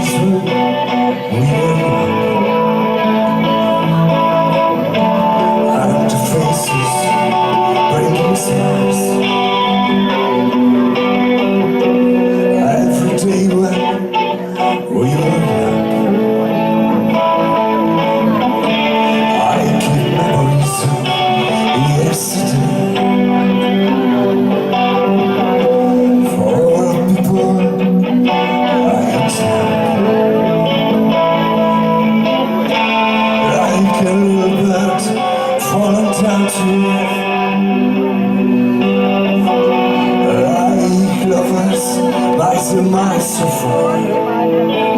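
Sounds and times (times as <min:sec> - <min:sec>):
live band with guitar: 0:00.0 - 0:44.9.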